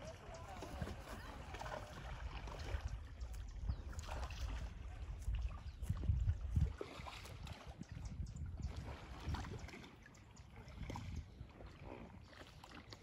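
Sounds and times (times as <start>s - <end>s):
river water lapping around kayak: 0.0s - 13.0s.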